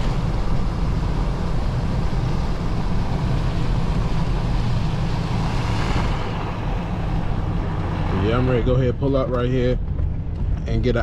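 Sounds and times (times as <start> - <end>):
car engine droning: 0.0 - 11.0
tyre and road noise on snow: 0.0 - 11.0.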